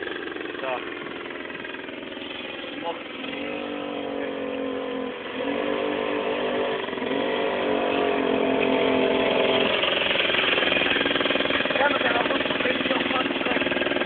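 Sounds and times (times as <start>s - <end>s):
moped engine revving: 0.0s - 14.0s.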